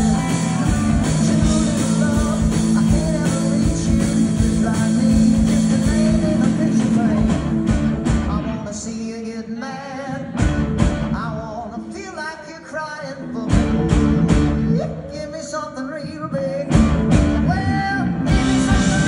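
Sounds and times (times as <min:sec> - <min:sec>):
live rock band playing: 0:00.0 - 0:09.0, 0:10.1 - 0:12.0, 0:13.2 - 0:15.4, 0:16.2 - 0:19.0
person singing lead vocal: 0:00.0 - 0:19.0.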